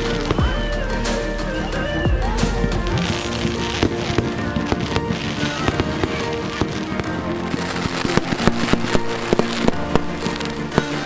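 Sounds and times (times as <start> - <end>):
fireworks bangs and crackles: 0.0 - 11.0
music: 0.0 - 11.0.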